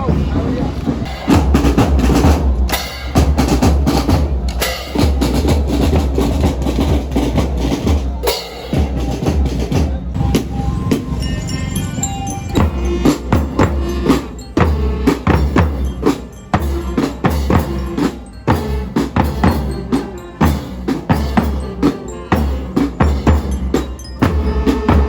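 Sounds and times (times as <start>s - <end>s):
drum-heavy music: 0.0s - 25.0s.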